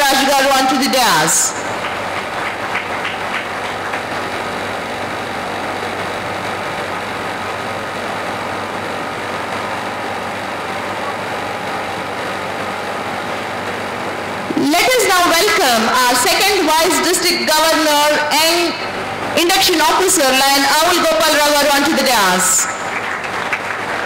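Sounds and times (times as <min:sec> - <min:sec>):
air conditioning hum and hiss: 0:00.0 - 0:24.0.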